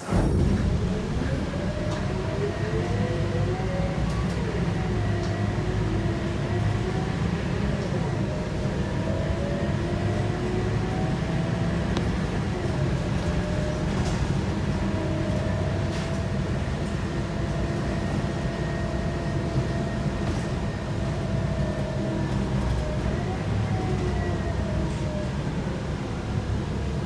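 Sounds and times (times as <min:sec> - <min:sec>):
bus diesel engine rumble: 0:00.0 - 0:27.0.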